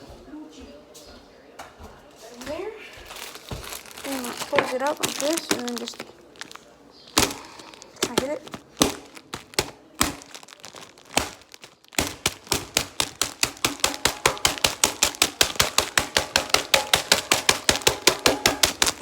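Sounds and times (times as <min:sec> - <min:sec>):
scoop pounding noodle packet: 0:03.4 - 0:19.0.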